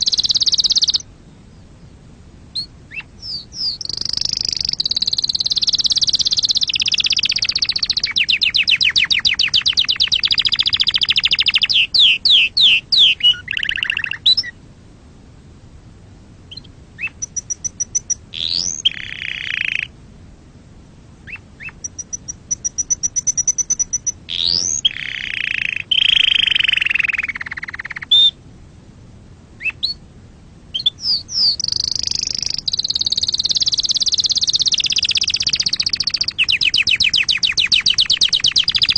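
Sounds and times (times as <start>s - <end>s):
canary singing: 0.0s - 1.1s, 2.5s - 14.6s, 16.5s - 19.9s, 21.2s - 28.4s, 29.6s - 30.0s, 30.7s - 38.9s.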